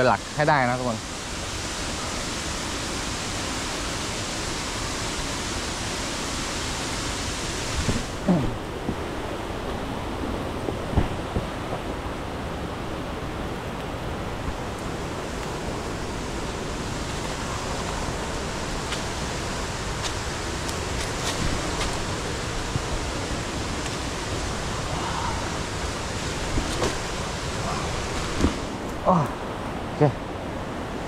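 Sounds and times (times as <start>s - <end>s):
waterfall roaring: 0.0s - 31.0s.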